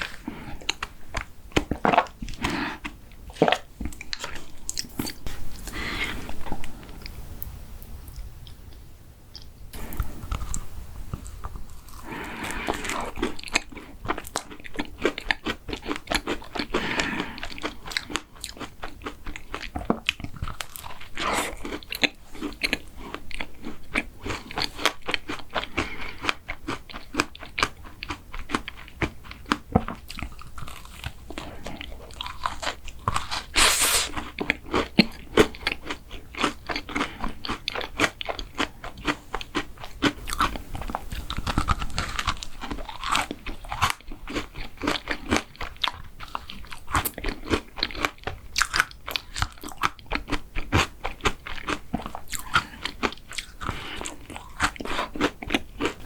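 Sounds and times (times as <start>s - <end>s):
crunchy biting and chewing: 9.4s - 56.0s.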